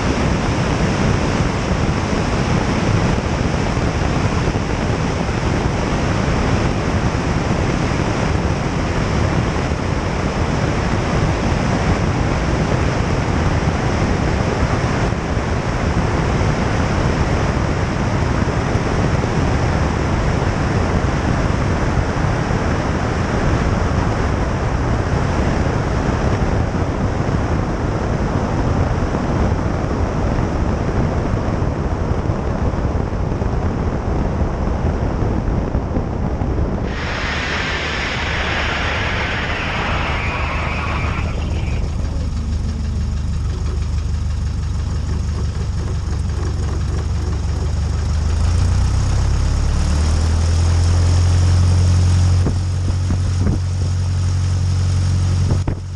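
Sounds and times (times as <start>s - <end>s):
propeller plane engine drone: 0.0s - 55.9s
wind rush on microphone: 0.0s - 55.9s.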